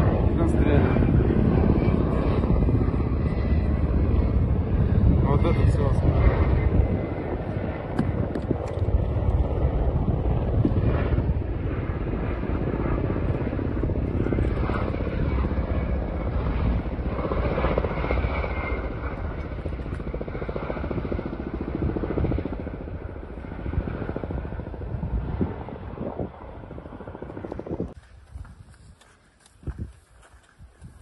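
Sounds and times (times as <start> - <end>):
helicopter rotors chopping: 0.0 - 31.0.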